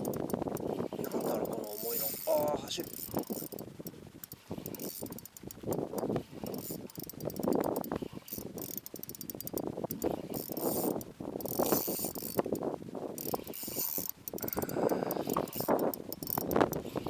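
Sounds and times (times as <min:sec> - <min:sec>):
fishing reel drag buzzing: 0:00.0 - 0:17.0.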